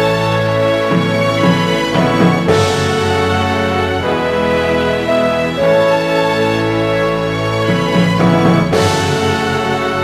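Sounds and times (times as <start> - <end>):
background music sustained chords: 0.0 - 10.0.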